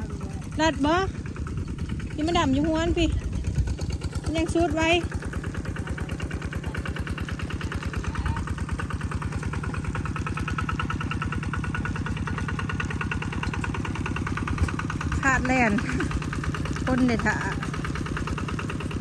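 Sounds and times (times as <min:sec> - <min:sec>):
engine idling with chugging: 0:00.0 - 0:19.0.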